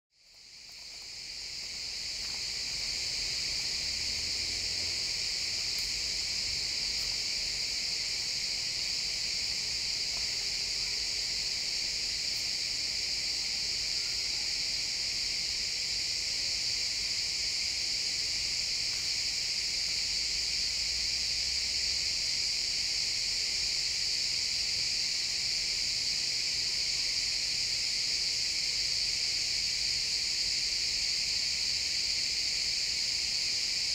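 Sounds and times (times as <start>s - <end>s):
crickets chirping: 0.2s - 33.9s.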